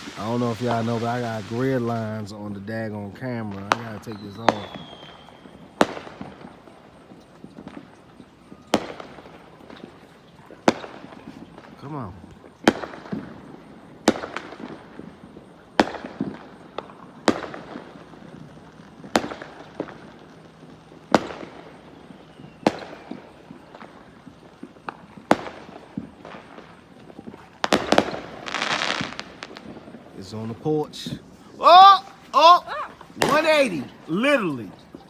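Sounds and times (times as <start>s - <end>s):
crackling firework pops: 0.0s - 35.0s
firework bangs echoing: 0.0s - 35.0s.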